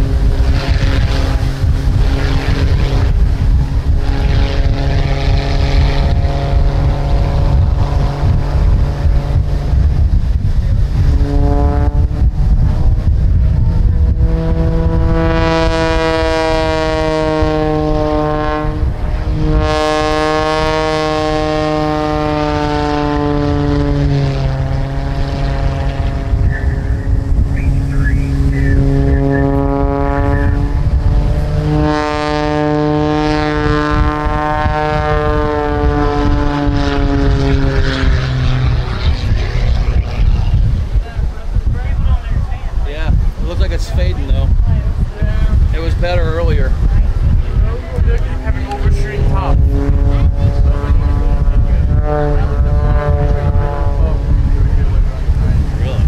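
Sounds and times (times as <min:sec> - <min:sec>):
propeller plane engine overhead: 0:00.0 - 0:56.0
wind rumble on microphone: 0:00.0 - 0:56.0.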